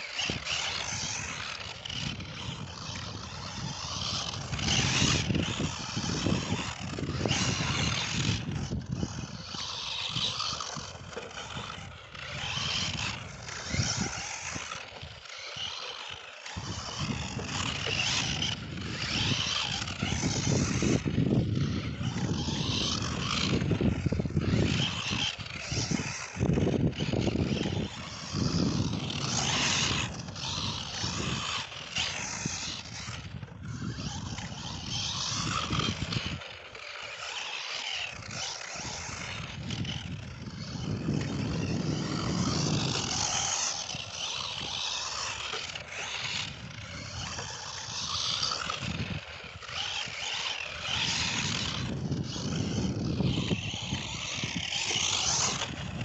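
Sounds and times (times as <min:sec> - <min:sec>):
electric rc car running on dirt: 0:00.0 - 0:56.0
gusty wind on microphone: 0:00.2 - 0:14.9, 0:16.5 - 0:36.4, 0:38.1 - 0:56.0.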